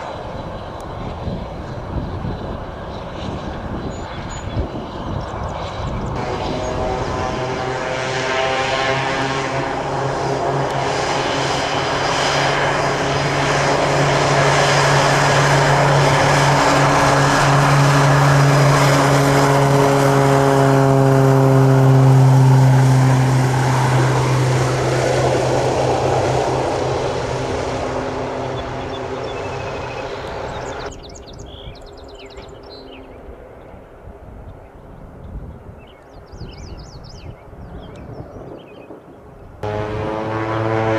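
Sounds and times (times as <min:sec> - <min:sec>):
propeller plane drone: 0:00.0 - 0:40.9.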